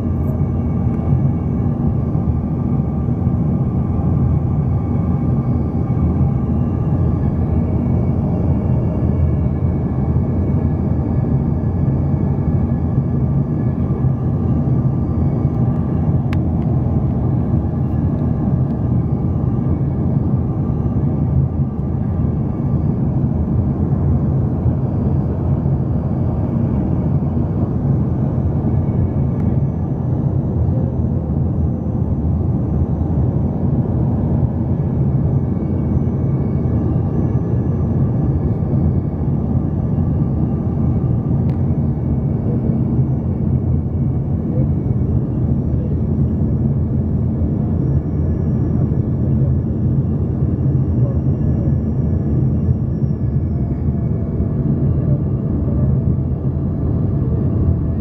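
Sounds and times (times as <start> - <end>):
jet cabin rumble: 0.0 - 58.0.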